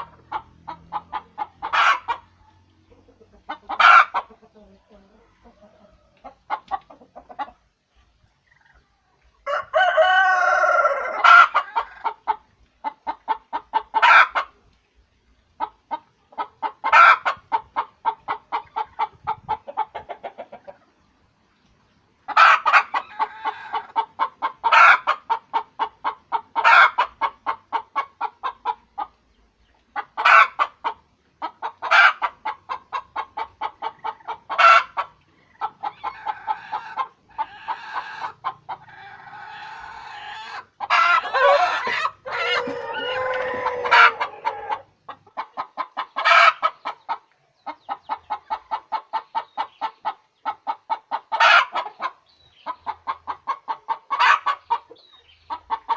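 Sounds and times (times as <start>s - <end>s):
hen cackling: 0.0s - 14.6s, 15.6s - 21.0s, 22.3s - 29.2s, 29.9s - 55.9s.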